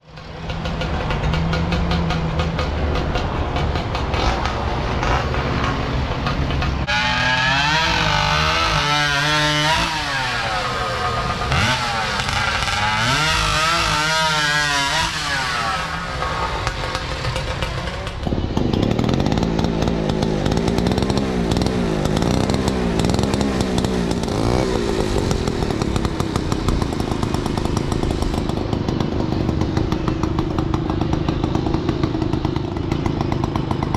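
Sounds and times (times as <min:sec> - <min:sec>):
chainsaw engine revving: 0:00.2 - 0:33.9.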